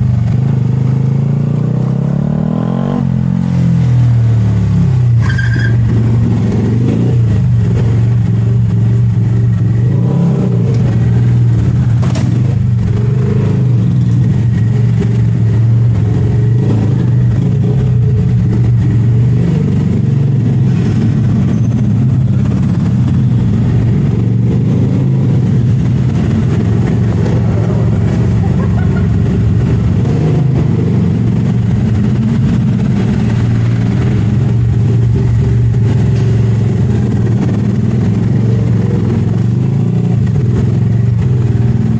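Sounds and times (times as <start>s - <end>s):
motorcycle engine running: 4.0s - 41.9s.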